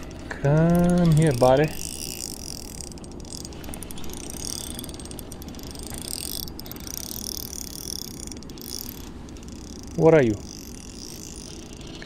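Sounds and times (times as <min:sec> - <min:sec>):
fishing reel ratchet clicking: 0:00.0 - 0:12.0
low steady hum: 0:00.0 - 0:12.0.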